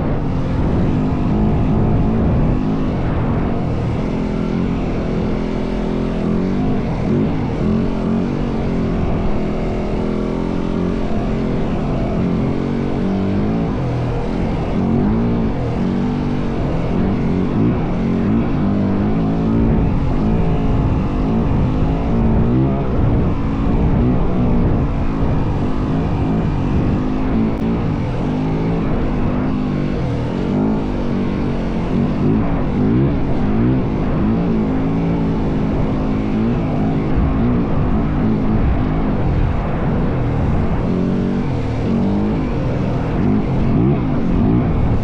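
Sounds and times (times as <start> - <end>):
dirt bike engine revving: 0.0 - 45.0
steady rushing noise: 0.0 - 45.0.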